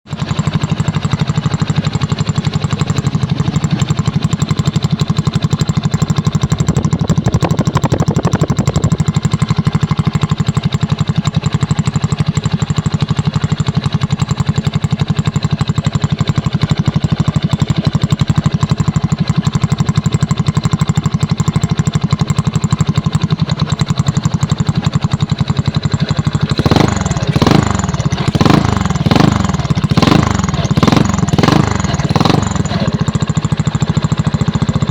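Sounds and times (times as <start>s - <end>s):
scooter engine idling and revving: 0.0s - 34.9s.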